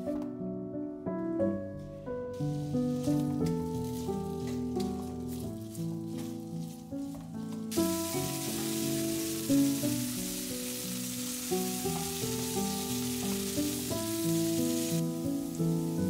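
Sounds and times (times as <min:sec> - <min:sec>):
background music with held notes: 0:00.0 - 0:16.0
potatoes sizzling in oil: 0:02.4 - 0:16.0.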